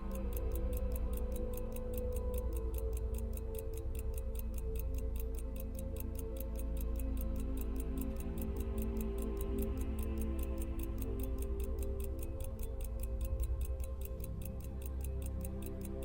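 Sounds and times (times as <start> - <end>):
background music with held notes: 0.0 - 16.0
rapid ticking: 0.0 - 16.0.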